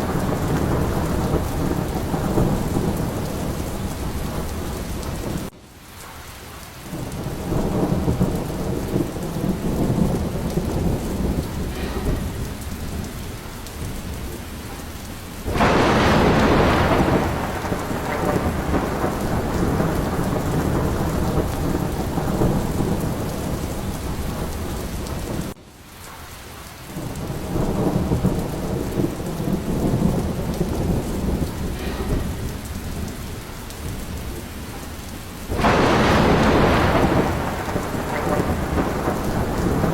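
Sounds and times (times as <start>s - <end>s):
rolling thunder: 0.0s - 5.6s, 6.8s - 25.6s, 26.9s - 39.9s
steady rain falling: 0.0s - 39.9s.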